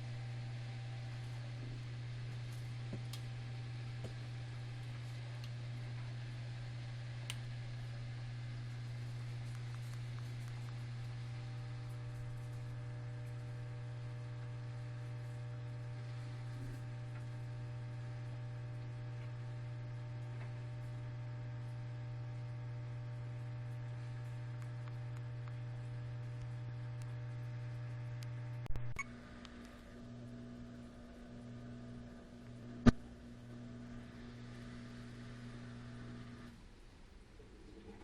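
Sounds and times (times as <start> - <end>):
washer-dryer humming: 0.0 - 36.5.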